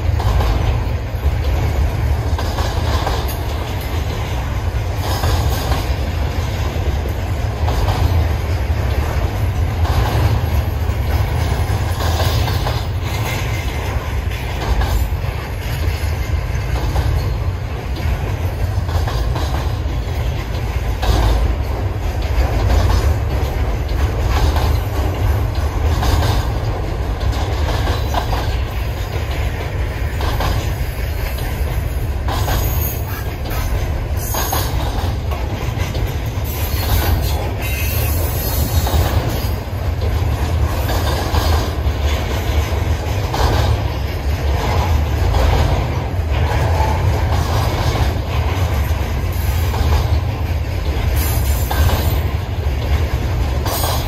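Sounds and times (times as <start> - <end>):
train low rumble: 0.0 - 54.0
wheels clacking over rail joints: 0.0 - 54.0.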